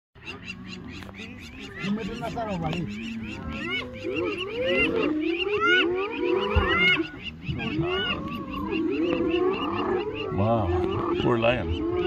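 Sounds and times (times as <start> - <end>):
hyenas calling: 0.2 - 12.0
hyenas chattering: 0.2 - 12.0.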